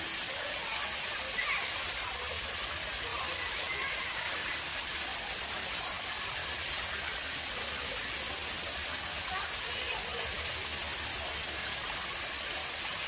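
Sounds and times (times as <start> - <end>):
water splashing into pond: 0.0 - 13.0.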